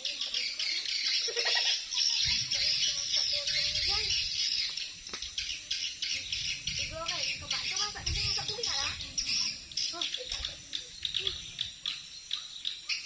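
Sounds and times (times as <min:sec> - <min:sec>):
faint voices: 0:00.0 - 0:11.8
cicadas droning: 0:00.0 - 0:13.0.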